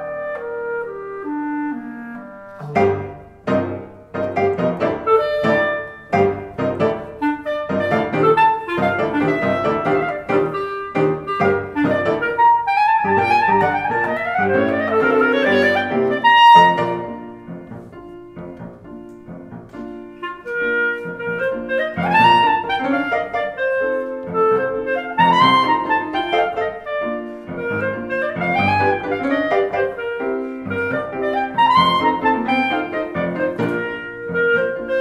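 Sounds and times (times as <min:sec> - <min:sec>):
clarinet solo: 0:00.0 - 0:35.0
piano accompaniment: 0:00.0 - 0:35.0.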